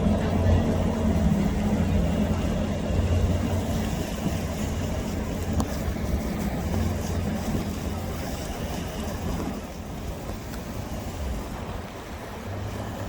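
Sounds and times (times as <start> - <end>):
motorboat engine droning: 0.0 - 13.0
surf: 0.0 - 13.0
wind: 0.0 - 13.0.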